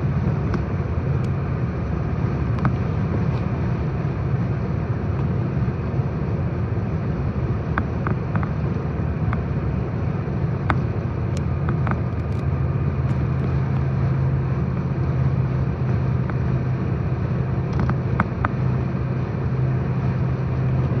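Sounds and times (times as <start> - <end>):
car road noise from cabin: 0.0 - 21.0.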